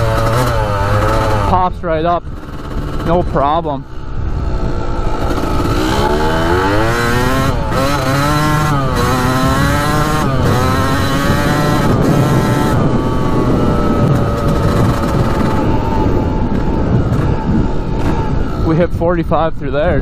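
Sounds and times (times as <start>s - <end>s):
two-stroke motorcycle engine revving: 0.0s - 19.3s.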